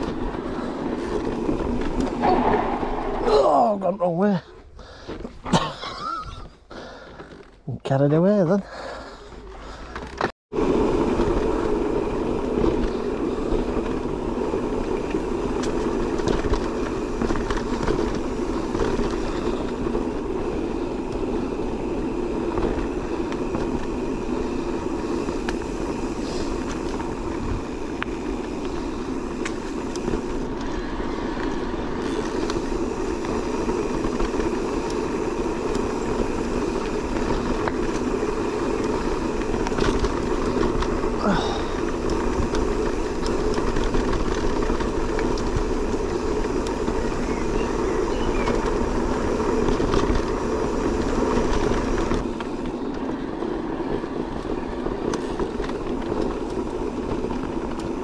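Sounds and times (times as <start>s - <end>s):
bike clicks and rattles: 0.0s - 3.2s, 4.1s - 58.0s
bike tyres rumbling: 0.0s - 58.0s.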